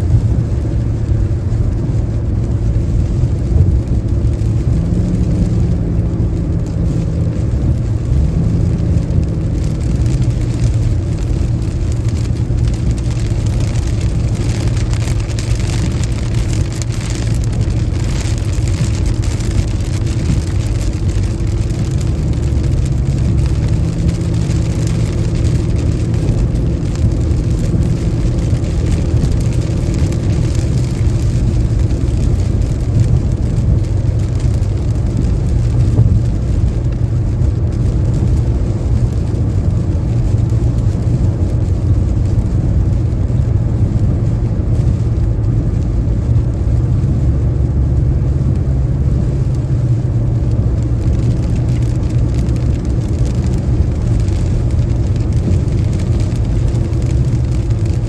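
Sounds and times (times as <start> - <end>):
rain hiss: 0.0 - 58.0
tyres and engine on wet road: 0.0 - 58.0.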